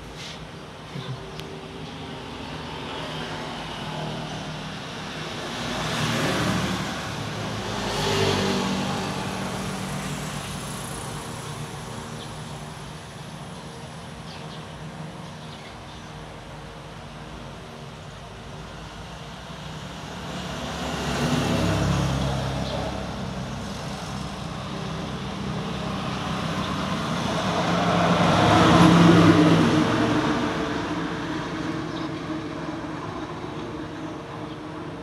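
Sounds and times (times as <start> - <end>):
vehicles passing: 0.0 - 35.0.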